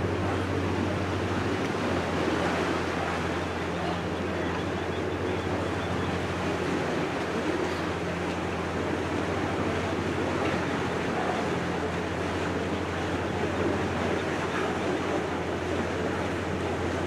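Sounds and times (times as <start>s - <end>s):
boat motor humming: 0.0s - 17.0s
water rushing and splashing: 0.0s - 17.0s.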